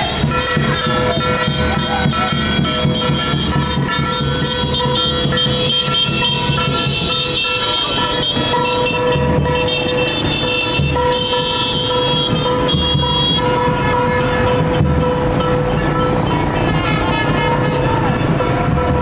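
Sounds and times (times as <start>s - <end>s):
running engines: 0.0s - 19.0s
vehicle horns honking: 0.0s - 19.0s.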